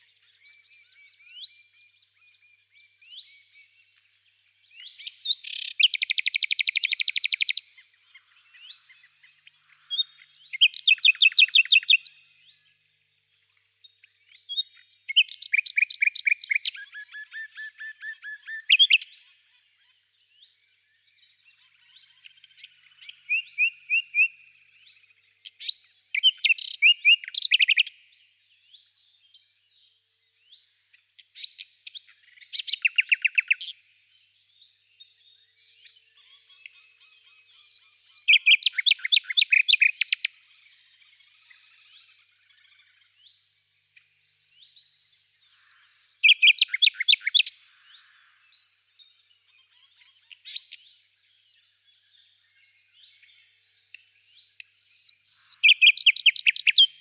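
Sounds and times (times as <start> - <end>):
songbird trilling and chirping: 0.0 - 12.7, 14.1 - 57.0.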